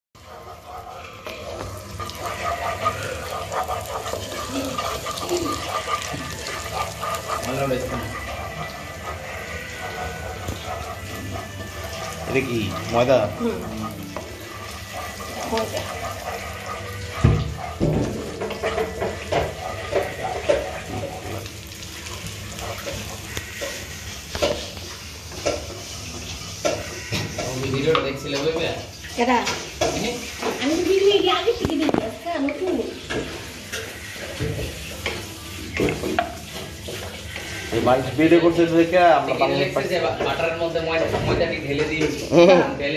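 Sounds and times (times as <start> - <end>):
butter frying in a pan: 0.2 - 42.9
cookware and utensils clattering: 0.2 - 42.9
oil sizzling in a wok: 0.2 - 42.9.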